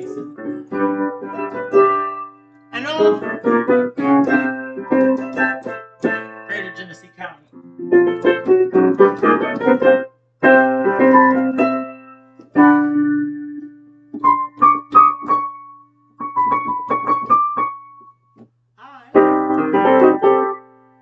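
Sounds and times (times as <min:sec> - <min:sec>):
piano playing chords: 0:00.0 - 0:18.2, 0:19.1 - 0:21.0.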